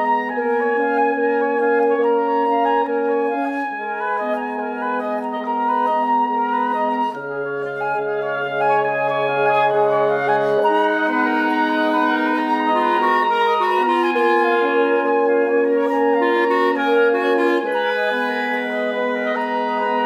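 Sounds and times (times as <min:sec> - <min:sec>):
woodwind quintet sustained chords: 0:00.0 - 0:20.0.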